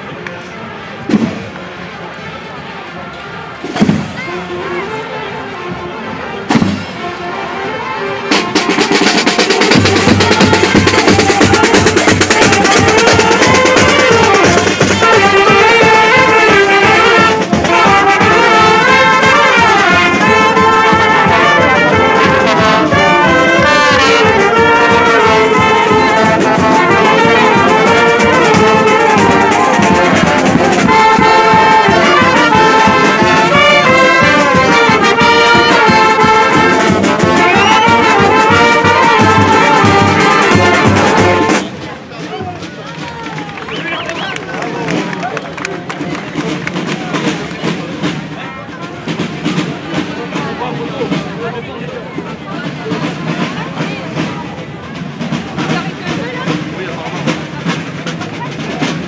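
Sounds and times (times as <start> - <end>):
street brass band playing: 0.0 - 59.0.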